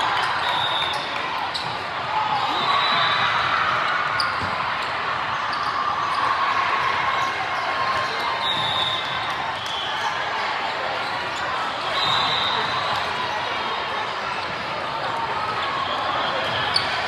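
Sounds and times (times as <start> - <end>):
crowd chatter echoing in hall: 0.0 - 17.0.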